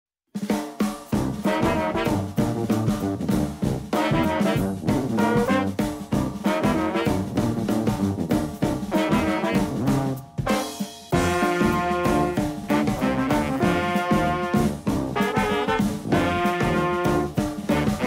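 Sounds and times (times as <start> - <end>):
upbeat jazzy brass music: 0.4 - 18.0.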